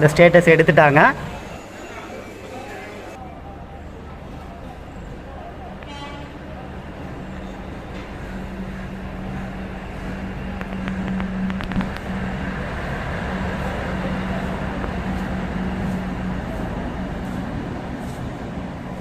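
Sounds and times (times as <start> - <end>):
train humming and rumbling: 0.0 - 19.0.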